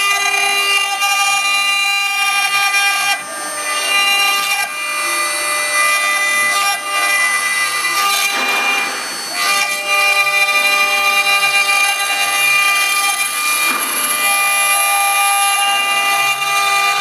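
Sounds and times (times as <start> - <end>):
bit grinding through stone: 0.0 - 17.0
router spindle whine: 0.0 - 17.0.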